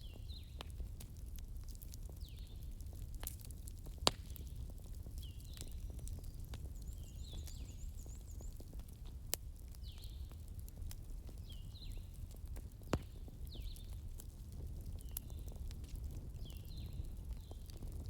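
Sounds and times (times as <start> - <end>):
crackling fire with pops: 0.0 - 18.0.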